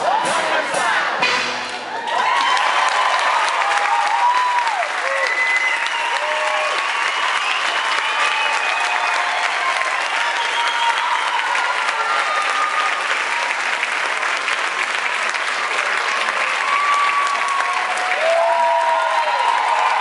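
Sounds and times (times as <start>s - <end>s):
audience applauding: 1.9s - 20.0s.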